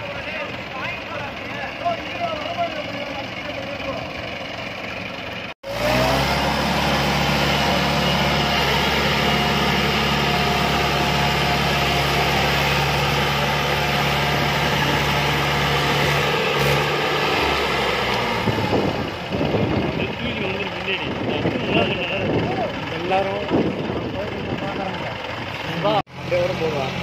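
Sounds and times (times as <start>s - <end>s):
tractor engines working under load: 0.0s - 27.0s.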